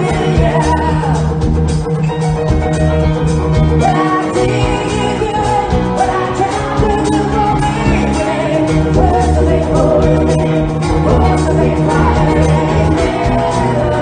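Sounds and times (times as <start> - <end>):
lead melody singing: 0.0 - 2.2, 3.5 - 14.0
live rock band playing: 0.0 - 14.0.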